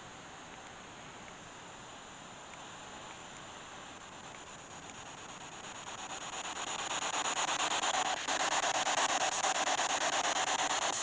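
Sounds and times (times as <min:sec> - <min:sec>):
fluttering static hiss: 0:00.0 - 0:11.0.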